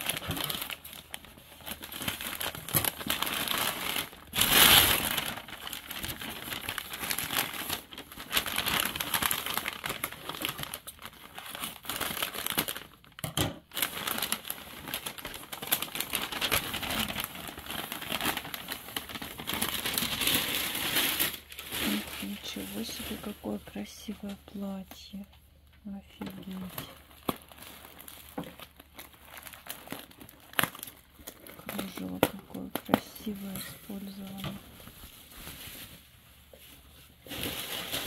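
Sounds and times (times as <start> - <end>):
packing paper crinkling: 0.0 - 25.3, 25.9 - 38.0.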